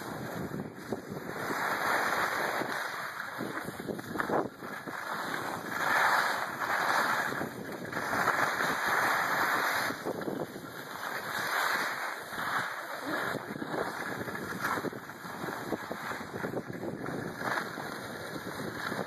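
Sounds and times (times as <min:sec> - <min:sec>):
skis hissing on snow: 0:00.0 - 0:19.0
wind rushing over microphone: 0:00.0 - 0:19.0.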